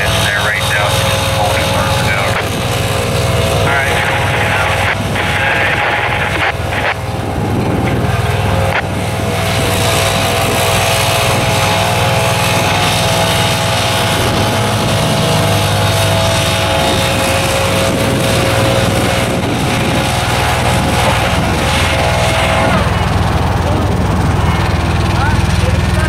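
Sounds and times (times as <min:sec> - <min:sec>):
leaf blower running: 0:00.0 - 0:26.0
roller engine running: 0:00.0 - 0:26.0.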